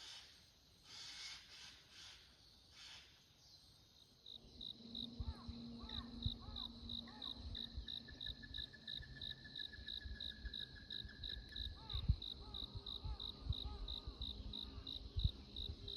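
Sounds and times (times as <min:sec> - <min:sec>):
insect chirping in pulses: 0:00.0 - 0:15.9.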